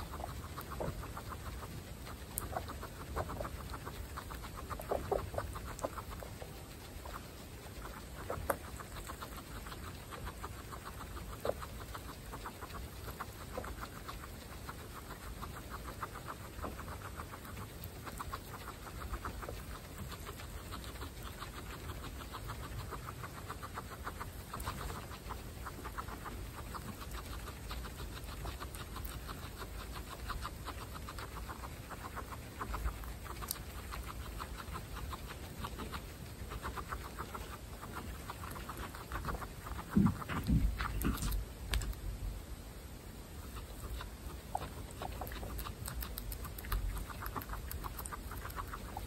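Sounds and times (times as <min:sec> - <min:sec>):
guinea pigs chewing grass: 0:00.0 - 0:49.0.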